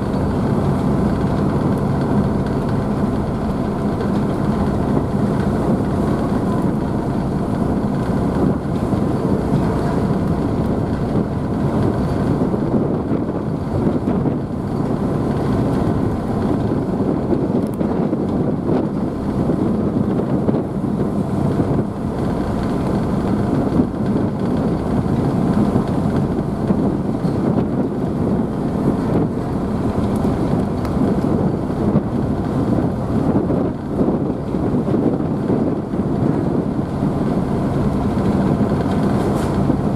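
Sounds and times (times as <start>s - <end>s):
ferry engines running: 0.0s - 39.9s
water rushing in wake: 0.0s - 39.9s
wind buffeting microphone: 0.0s - 39.9s.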